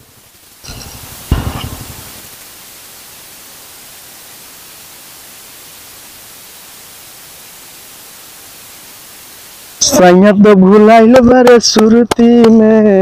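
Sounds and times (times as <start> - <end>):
steady static hiss: 0.0 - 13.0.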